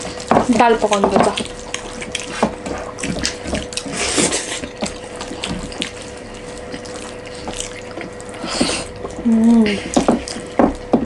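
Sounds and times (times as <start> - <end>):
faint steady hum: 0.0 - 11.0
wet chewing: 0.0 - 11.0.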